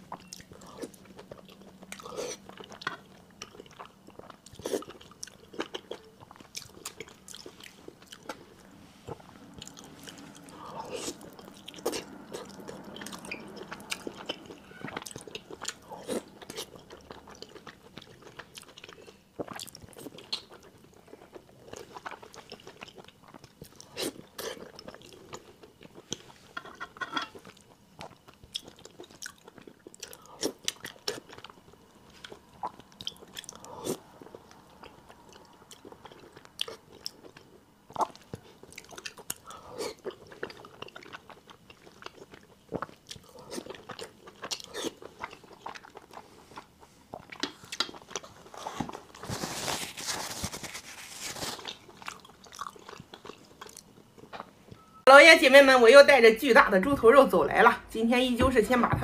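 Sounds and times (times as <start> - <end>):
person chewing with wet smacking: 0.0 - 26.4, 27.3 - 49.5, 50.1 - 54.9.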